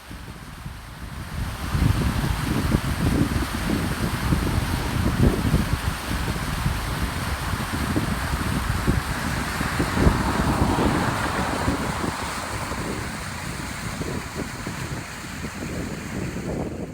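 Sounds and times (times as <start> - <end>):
wind buffeting microphone: 0.0 - 16.9
water rushing down riverbed: 0.9 - 16.7.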